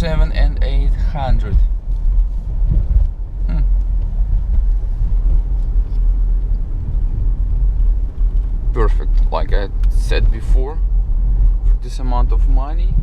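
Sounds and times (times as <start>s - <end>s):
car interior road noise: 0.0s - 13.0s.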